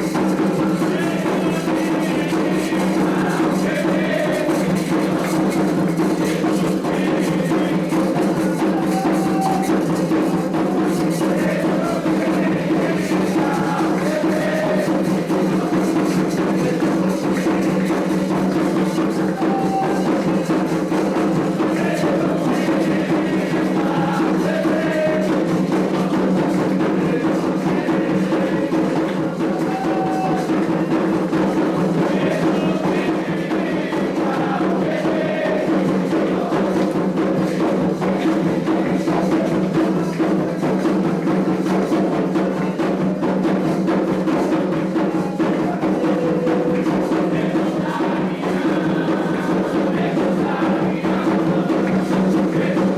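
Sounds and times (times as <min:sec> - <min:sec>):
hand drums and percussion: 0:00.0 - 0:52.9
voices faintly singing chants: 0:00.0 - 0:52.9.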